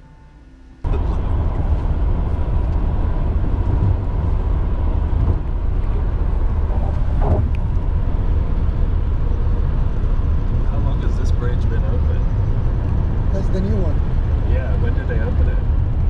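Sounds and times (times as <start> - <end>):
car cabin road rumble: 0.8 - 16.0.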